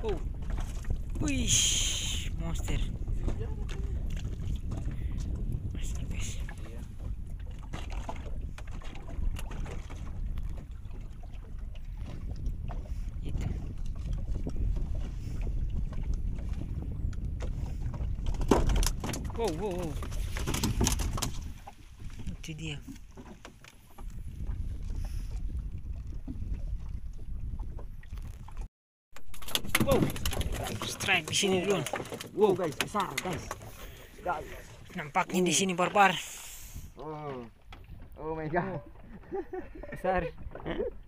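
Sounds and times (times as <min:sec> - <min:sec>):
wind noise on microphone: 0:00.0 - 0:32.0, 0:37.6 - 0:41.0
water against boat hull: 0:00.0 - 0:41.0.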